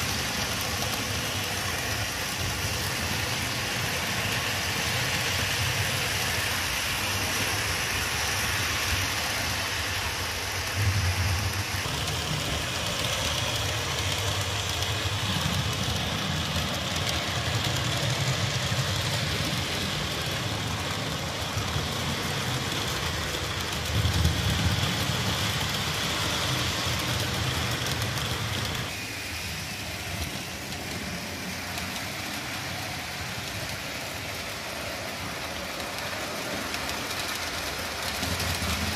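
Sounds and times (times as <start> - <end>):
model train motors whirring: 0.0 - 38.9
wheels rolling on track: 0.0 - 38.9.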